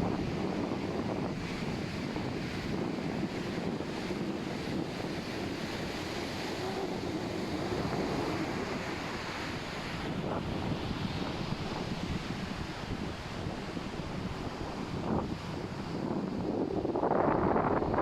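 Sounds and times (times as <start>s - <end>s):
surf washing onto beach: 0.0s - 18.0s
wind rumbling on microphone: 0.0s - 18.0s.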